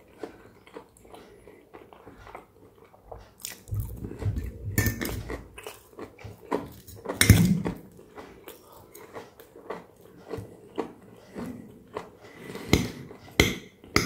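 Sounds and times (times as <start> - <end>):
close-up chewing: 0.0 - 13.9.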